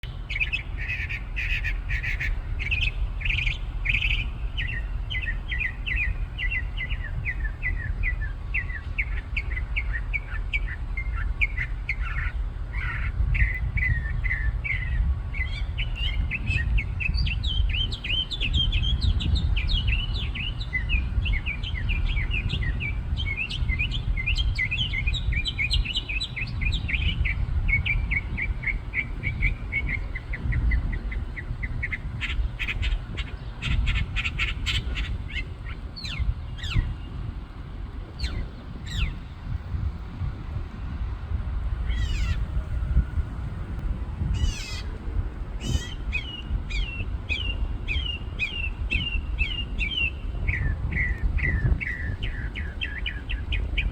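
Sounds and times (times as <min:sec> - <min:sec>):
songbird singing: 0:00.0 - 0:53.9
steady low rumble: 0:00.0 - 0:53.9.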